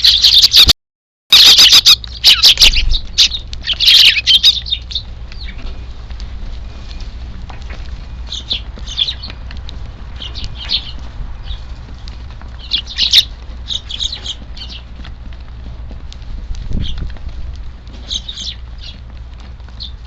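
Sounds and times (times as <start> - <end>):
sparrows chirping: 0.0 - 0.7, 1.3 - 15.9, 16.6 - 20.0
wind rumble on microphone: 1.8 - 20.0.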